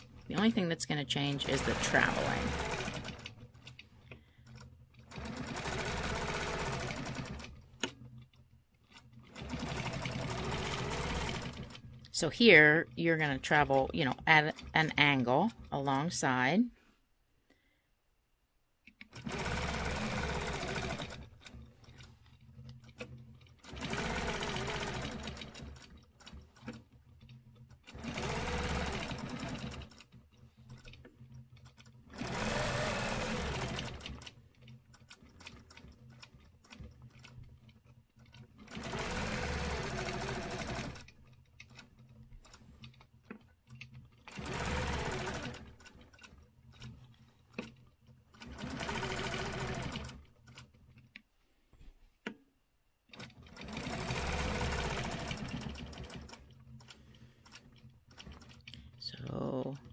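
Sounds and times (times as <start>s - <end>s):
sewing machine stitching: 0.0s - 16.6s, 18.9s - 51.1s, 53.1s - 59.9s.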